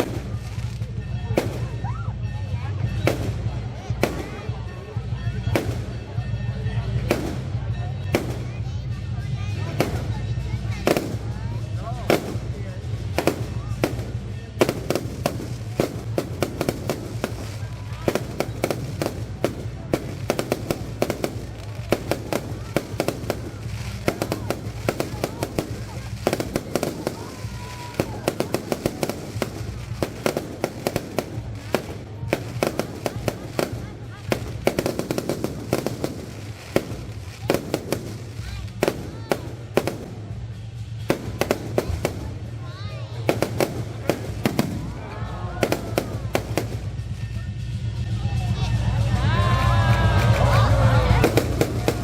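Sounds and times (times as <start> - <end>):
firecrackers banging: 0.0 - 52.0.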